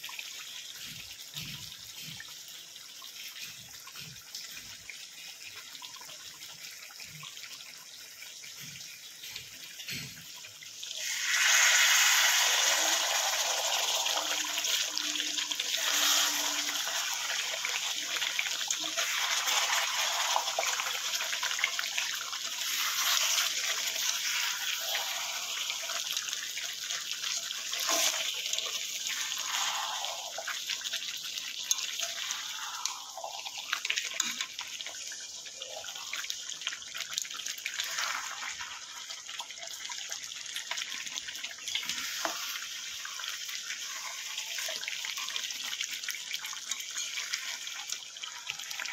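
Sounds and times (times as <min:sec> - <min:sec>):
tap water running into sink: 0:00.2 - 0:48.9.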